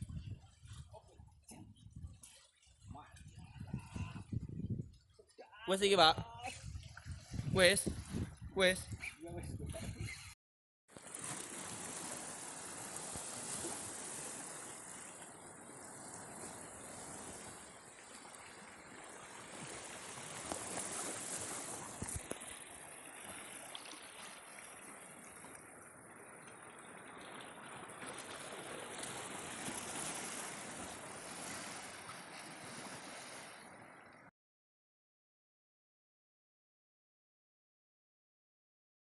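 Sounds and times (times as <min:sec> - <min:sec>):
sea wind and water rushing: 0:00.0 - 0:10.1, 0:10.9 - 0:34.3.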